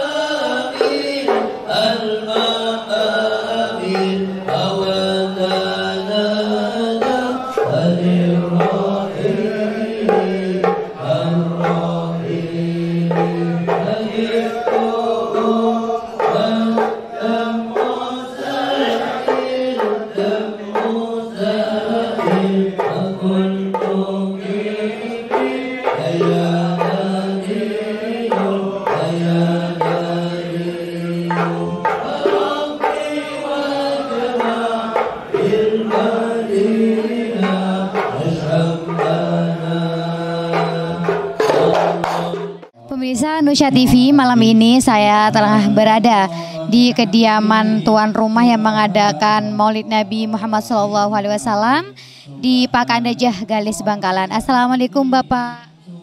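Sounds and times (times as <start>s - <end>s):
man chanting into microphone: 0.0s - 42.9s, 43.7s - 56.0s
hand percussion beats: 0.0s - 55.8s.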